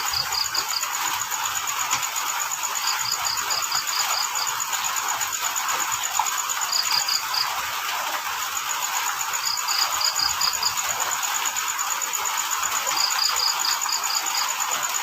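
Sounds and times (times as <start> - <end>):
cricket rapid even pulses: 0.0 - 15.0
lower-pitched cricket chirps: 0.0 - 15.0
rain hiss: 0.0 - 15.0.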